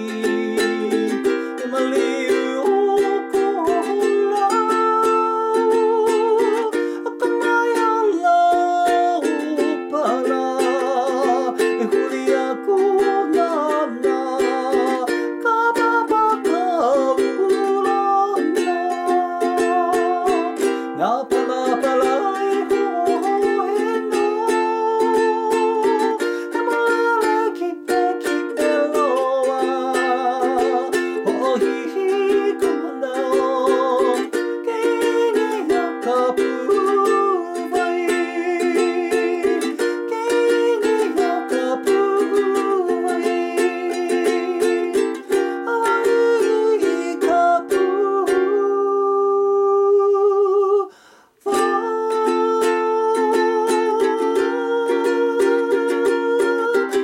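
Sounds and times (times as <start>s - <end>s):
ukulele melody: 0.0s - 57.0s.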